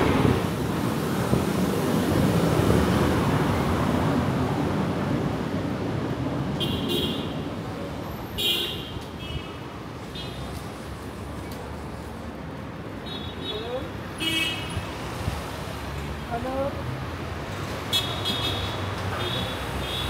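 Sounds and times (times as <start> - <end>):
road traffic rumbling: 0.0 - 20.0.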